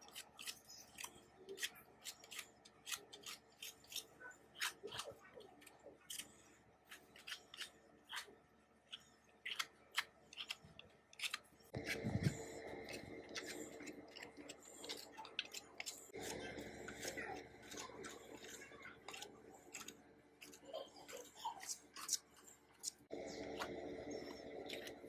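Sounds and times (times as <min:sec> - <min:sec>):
rasping noise with faint hum: 0:00.0 - 0:25.0.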